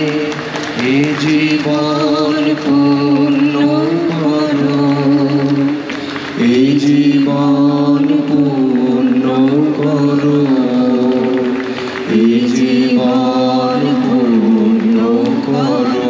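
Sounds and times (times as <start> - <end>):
slow singing in long notes: 0.0 - 16.0.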